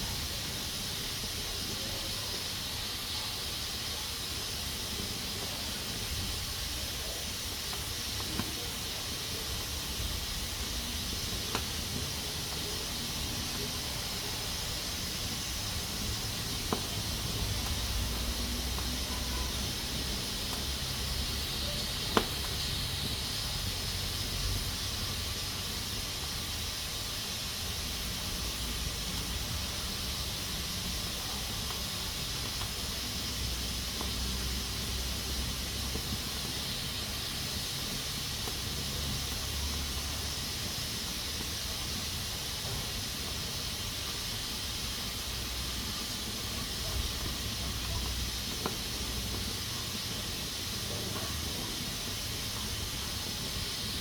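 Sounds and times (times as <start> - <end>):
pressure cooker hissing steam: 0.0 - 54.0.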